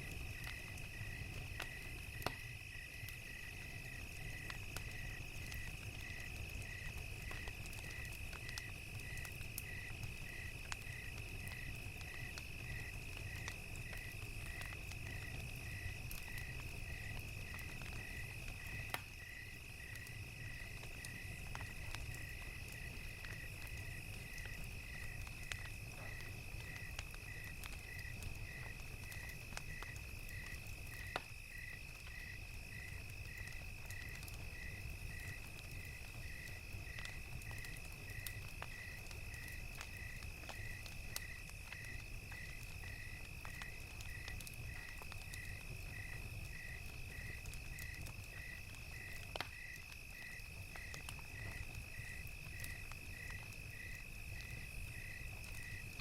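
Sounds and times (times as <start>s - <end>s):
cricket chirping: 0.0s - 56.0s
fire crackling and popping: 0.0s - 56.0s.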